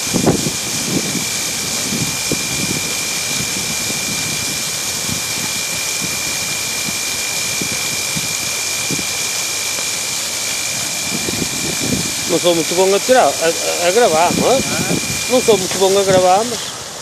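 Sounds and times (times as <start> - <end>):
water jets spraying: 0.0 - 17.0
thin steady high tone: 0.5 - 17.0.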